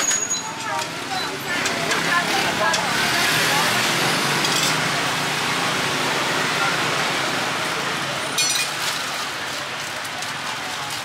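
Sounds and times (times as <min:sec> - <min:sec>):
street market ambience: 0:00.0 - 0:11.0.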